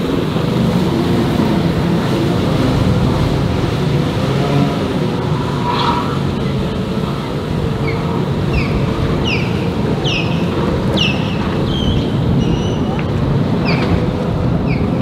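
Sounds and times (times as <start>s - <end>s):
jet ski engine and spray: 0.0s - 15.0s.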